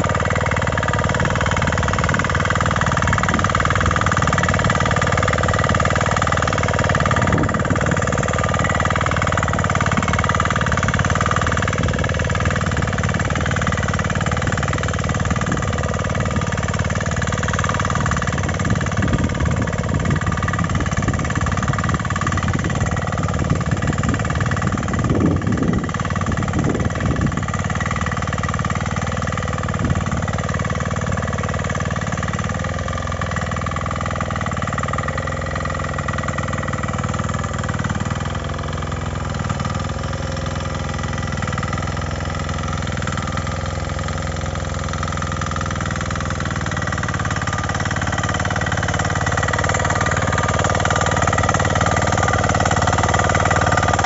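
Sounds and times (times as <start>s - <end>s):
power weeder engine running: 0.0s - 54.0s.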